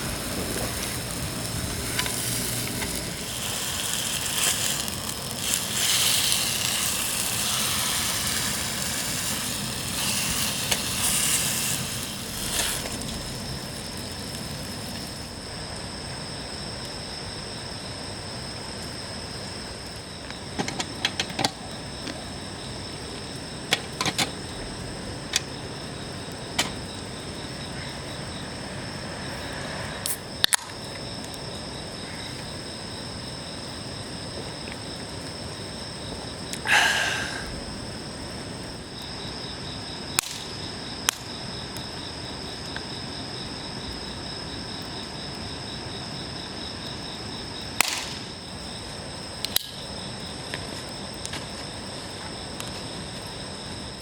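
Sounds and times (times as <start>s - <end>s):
campfire crackling: 0.0s - 54.0s
insects chirring: 0.0s - 54.0s.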